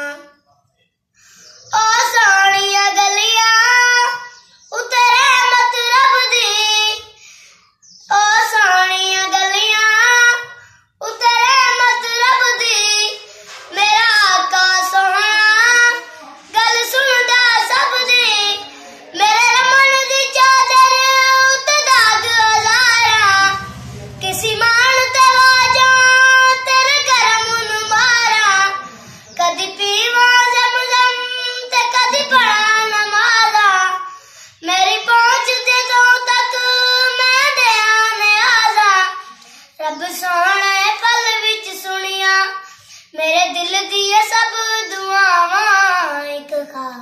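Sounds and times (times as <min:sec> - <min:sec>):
boy singing unaccompanied: 0:00.0 - 0:00.4, 0:01.6 - 0:07.2, 0:07.9 - 0:47.0.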